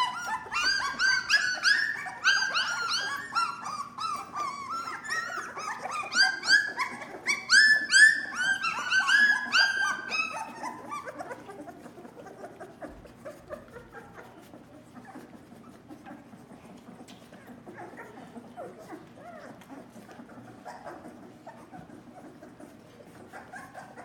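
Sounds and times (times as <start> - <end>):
puppies squealing and whimpering: 0.0 - 24.0.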